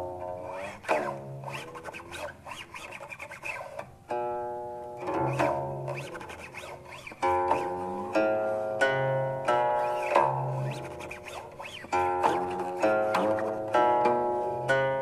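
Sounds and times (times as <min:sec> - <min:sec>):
fingers rubbing strings: 0:00.0 - 0:15.0
plucked zither notes sliding: 0:00.0 - 0:15.0.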